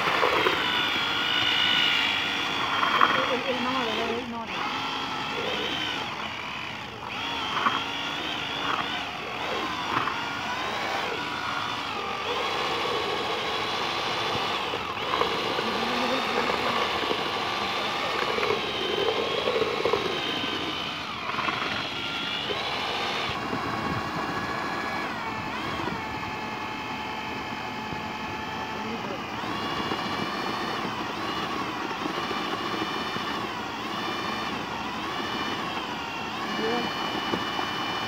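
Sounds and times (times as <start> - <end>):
electric drill mixer whining: 0.0 - 38.0.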